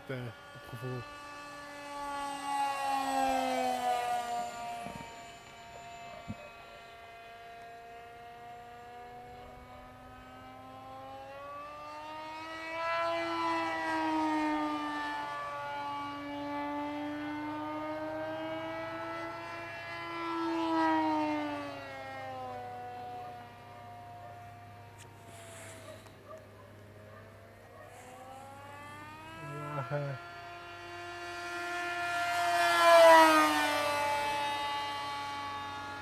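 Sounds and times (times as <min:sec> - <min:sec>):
model plane motor whine: 0:00.0 - 0:36.0.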